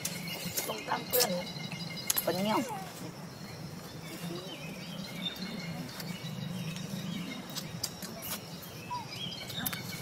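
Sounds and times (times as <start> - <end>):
faint bird chirps: 0.0 - 10.0
low outdoor hum: 0.0 - 10.0.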